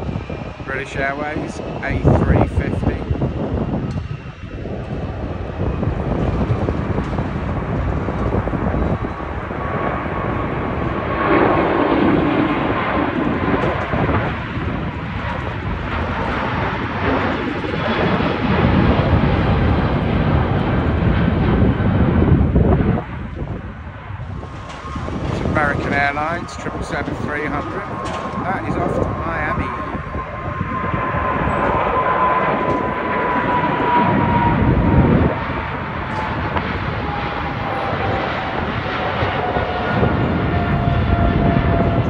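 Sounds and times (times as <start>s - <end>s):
jet airliner taking off: 0.0s - 42.0s.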